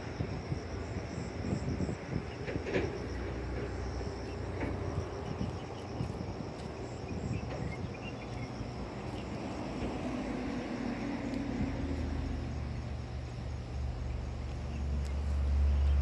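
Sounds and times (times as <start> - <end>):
high-pitched insect trill: 0.0 - 16.0
steady low rumble: 0.0 - 16.0.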